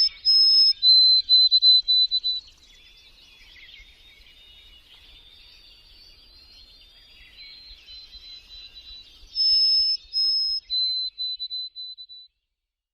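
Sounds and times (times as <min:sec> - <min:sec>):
bird whistling: 0:00.0 - 0:06.2, 0:07.2 - 0:12.3
small birds chirping chorus: 0:00.0 - 0:12.6.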